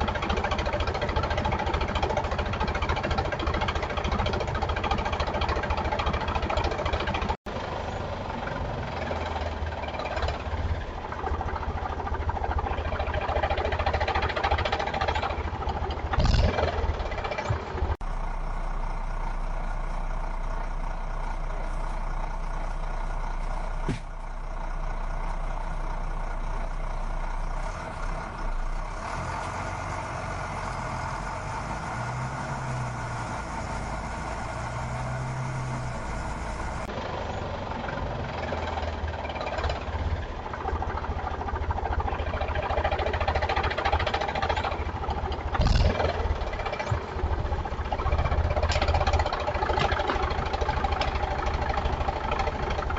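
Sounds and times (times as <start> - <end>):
heavy vehicle engines running: 0.0 - 52.9.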